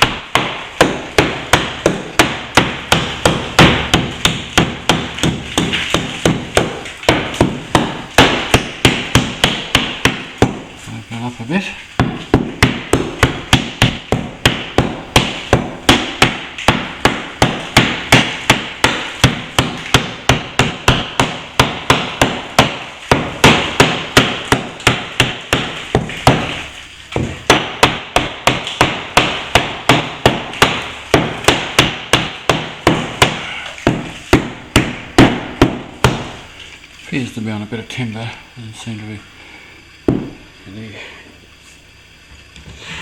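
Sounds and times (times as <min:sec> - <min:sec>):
hammer chipping plaster: 0:00.0 - 0:10.7, 0:12.0 - 0:36.4.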